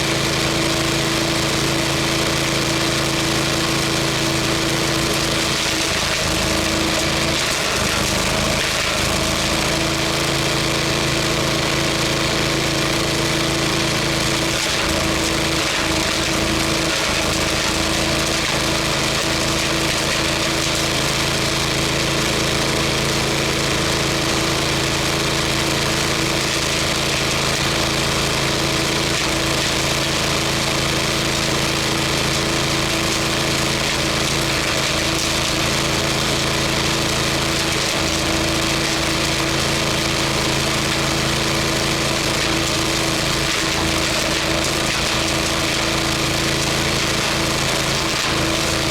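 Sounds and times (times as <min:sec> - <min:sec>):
wood chipper engine running: 0:00.0 - 0:48.9.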